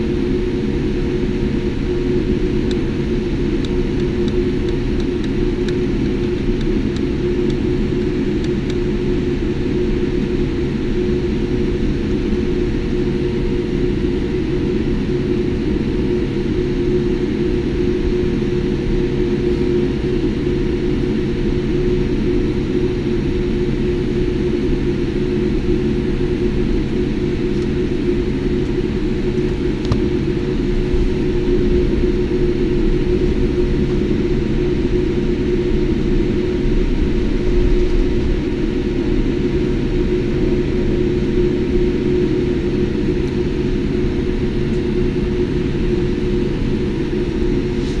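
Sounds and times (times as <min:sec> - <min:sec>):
aircraft cabin engine drone: 0:00.0 - 0:48.0.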